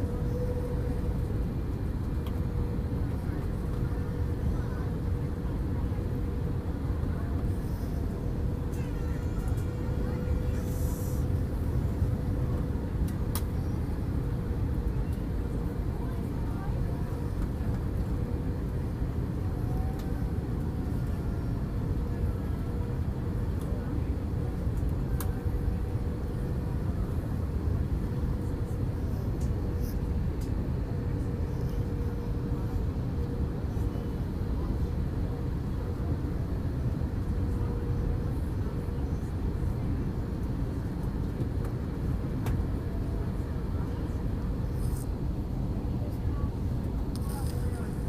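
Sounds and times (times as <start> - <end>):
airliner engines and airflow rumble: 0.0 - 48.0.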